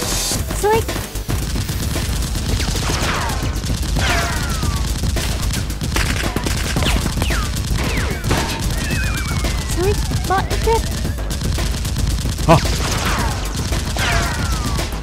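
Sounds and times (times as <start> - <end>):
rapid automatic gunfire effects: 0.6 - 15.0.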